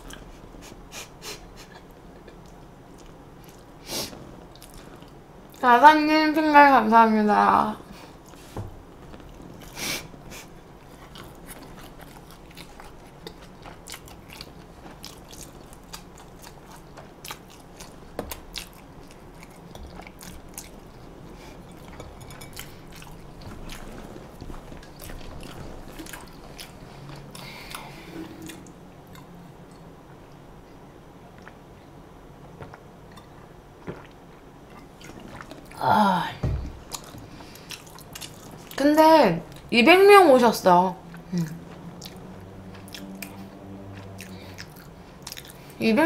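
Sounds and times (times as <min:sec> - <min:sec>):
person chewing crunchy food: 0:01.7 - 0:05.6, 0:08.2 - 0:35.8, 0:36.7 - 0:38.8, 0:41.0 - 0:45.8.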